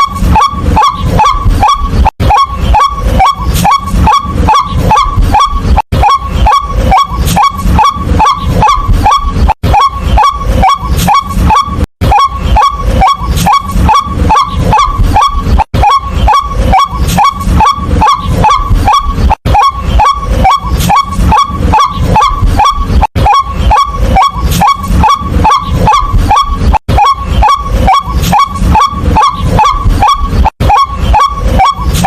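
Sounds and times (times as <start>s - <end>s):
waterhen calling kwak notes: 0.0s - 32.0s.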